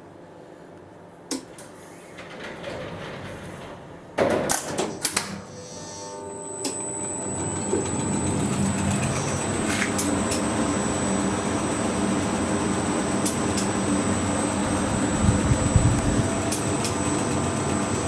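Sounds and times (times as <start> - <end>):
elevator running rumble: 2.2 - 18.0.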